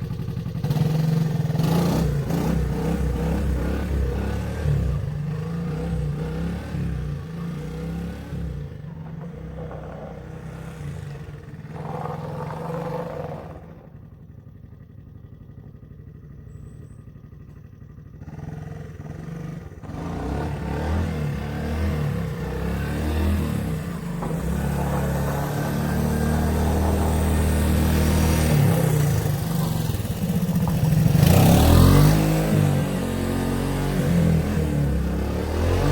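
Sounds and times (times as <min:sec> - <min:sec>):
three-wheeler engine running: 0:00.0 - 0:35.9.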